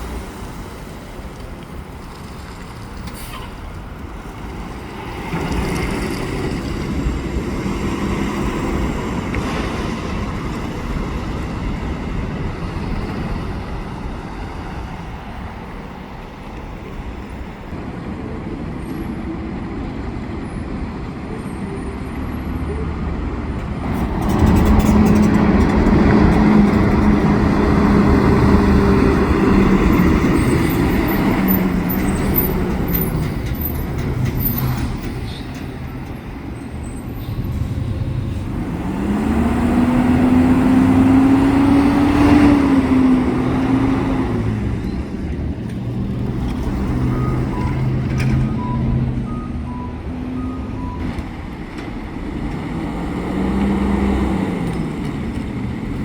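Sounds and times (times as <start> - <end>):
garbage trucks driving past: 0.0 - 56.0.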